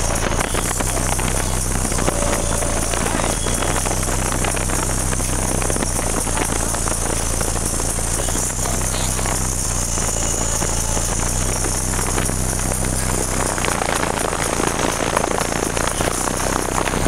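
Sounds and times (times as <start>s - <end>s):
buzzing rattling: 0.0s - 17.0s
loud subwoofer bass: 0.0s - 17.0s.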